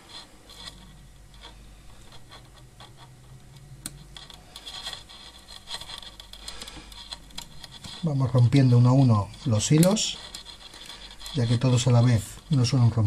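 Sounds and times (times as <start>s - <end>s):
wire cutters clicking and scraping: 0.0s - 13.0s.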